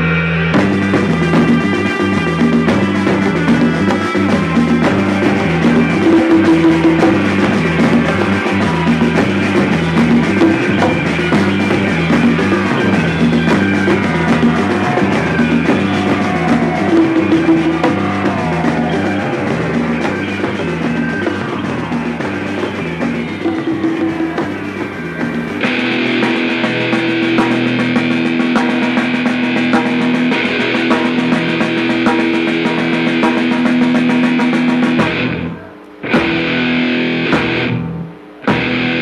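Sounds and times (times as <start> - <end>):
repeating bass line: 0.0 - 35.5
drum kit: 0.0 - 39.0
electric guitar: 0.0 - 39.0.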